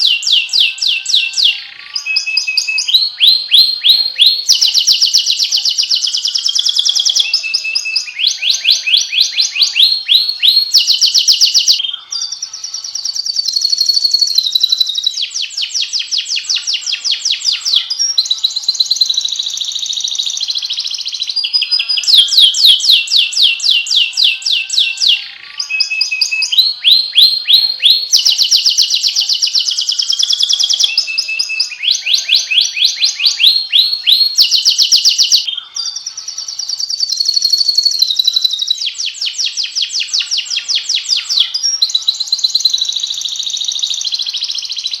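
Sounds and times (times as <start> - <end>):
canary singing trills: 0.0 - 45.0.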